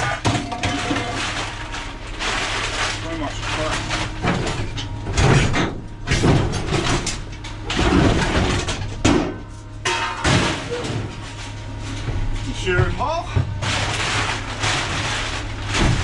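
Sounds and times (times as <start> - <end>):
scrap steel clanking onto pile: 0.0 - 16.0
steady low hum: 0.0 - 16.0.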